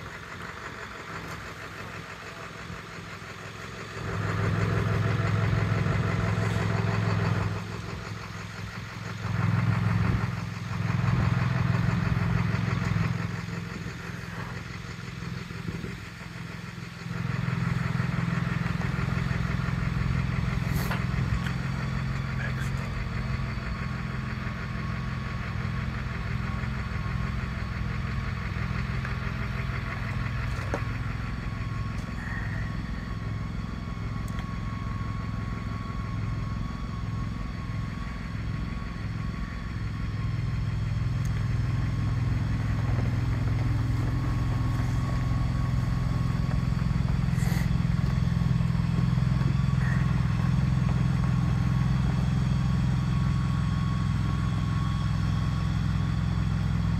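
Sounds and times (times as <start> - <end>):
engine running: 0.0 - 56.9
faint steady whine: 0.0 - 56.9.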